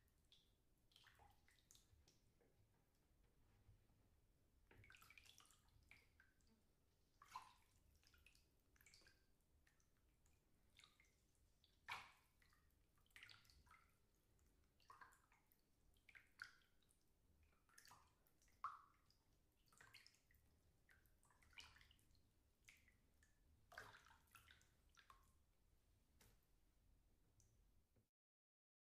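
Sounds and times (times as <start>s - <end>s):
water sloshing in bathtub: 0.1s - 26.6s.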